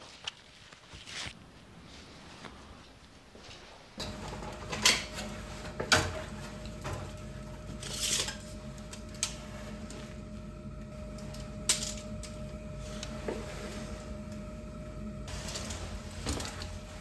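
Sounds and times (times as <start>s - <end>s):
steady hum: 1.4s - 17.0s.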